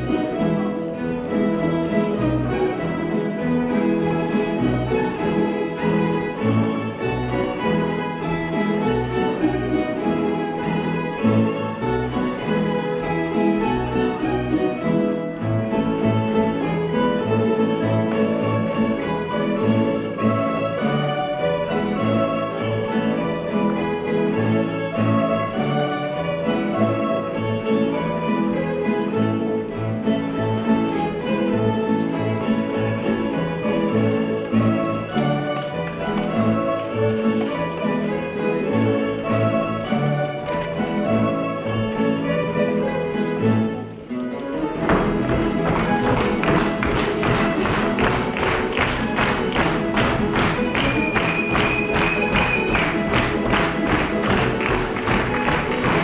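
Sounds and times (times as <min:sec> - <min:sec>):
folk band dance tune: 0:00.0 - 0:56.0.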